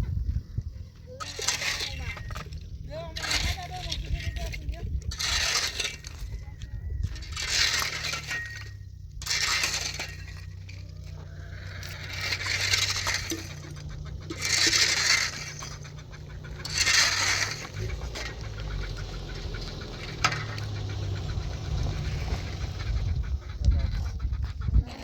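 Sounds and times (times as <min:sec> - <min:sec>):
scraping strokes: 0:01.2 - 0:06.4, 0:07.1 - 0:25.0.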